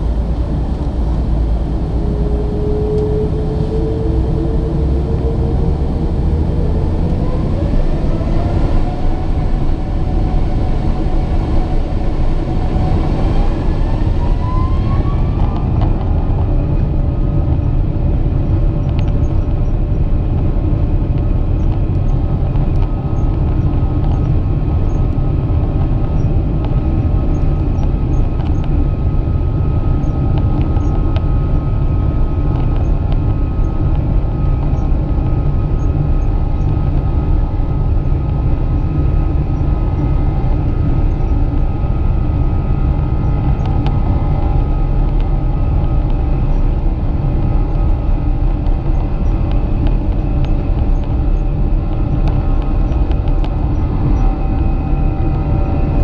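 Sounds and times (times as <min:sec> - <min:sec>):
airliner engine drone: 0:00.0 - 0:56.0.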